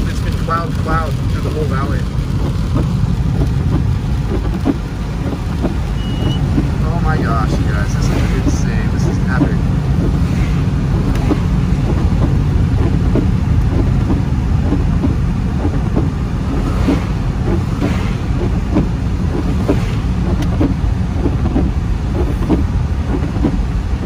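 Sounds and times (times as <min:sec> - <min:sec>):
engine and tyres on wet road: 0:00.0 - 0:24.0
raindrops tapping on car roof: 0:00.0 - 0:24.0.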